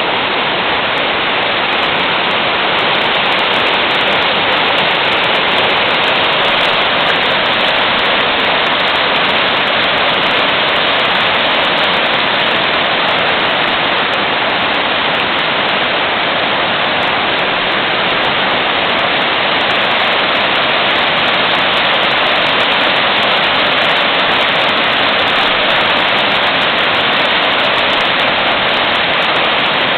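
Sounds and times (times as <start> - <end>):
water rushing over rocks: 0.0 - 29.9.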